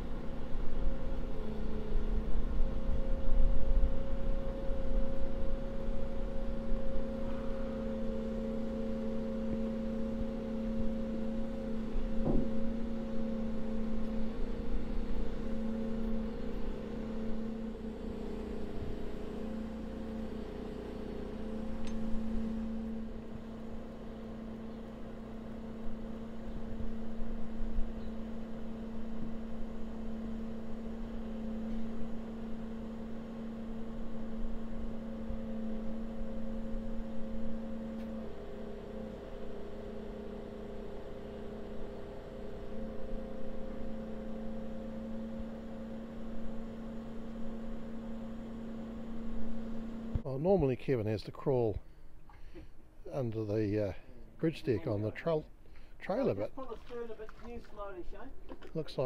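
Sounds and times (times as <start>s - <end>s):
hydraulic power unit humming: 0.0s - 59.0s.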